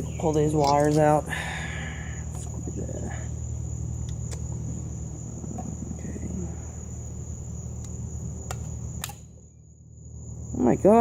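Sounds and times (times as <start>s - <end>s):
crickets trilling: 0.0s - 11.0s
steady low hum: 0.0s - 11.0s.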